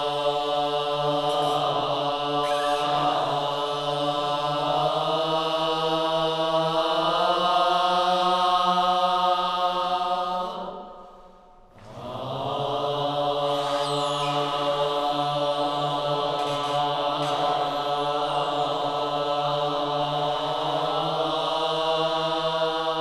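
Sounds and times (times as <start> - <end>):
low chanted drone: 0.0 - 9.4, 11.9 - 23.0.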